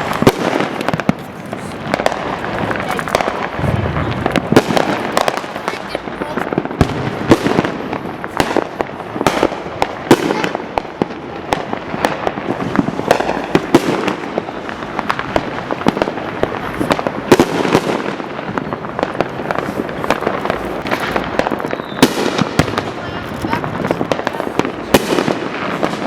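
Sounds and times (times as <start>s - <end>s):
distant firework bursts: 0.0s - 26.0s
firecrackers banging: 0.0s - 26.0s.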